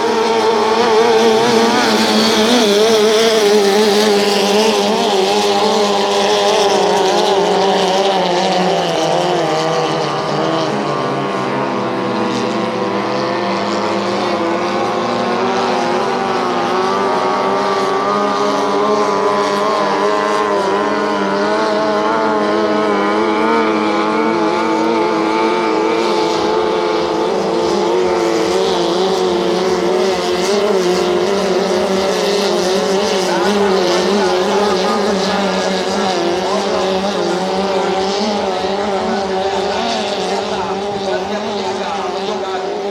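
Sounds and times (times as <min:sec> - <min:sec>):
outboard motors running hard: 0:00.0 - 0:42.9.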